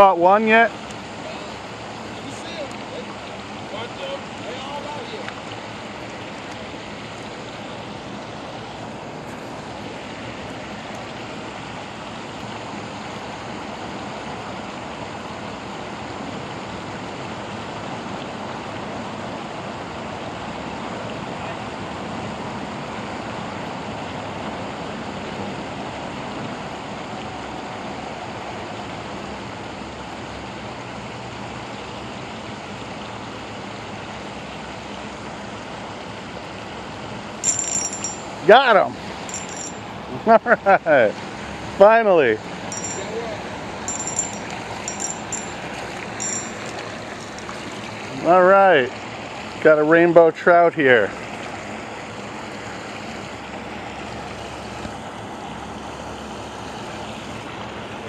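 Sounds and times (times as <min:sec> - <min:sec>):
water rushing over spillway: 0:00.0 - 0:58.0.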